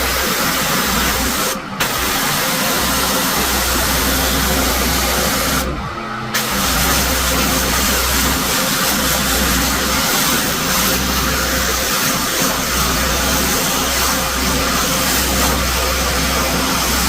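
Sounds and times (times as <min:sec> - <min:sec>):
high-pressure water spray hissing: 0:00.0 - 0:17.0
pressure washer engine drone: 0:00.0 - 0:17.0.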